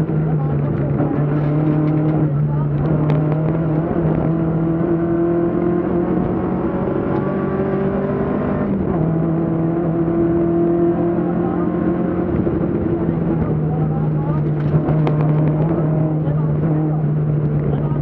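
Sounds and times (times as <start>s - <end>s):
rally car engine at high speed: 0.0s - 18.0s.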